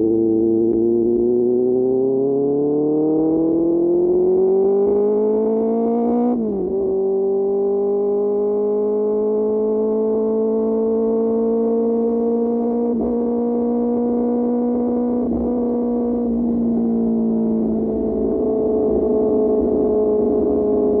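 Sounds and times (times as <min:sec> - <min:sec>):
motorcycle engine droning: 0:00.0 - 0:21.0.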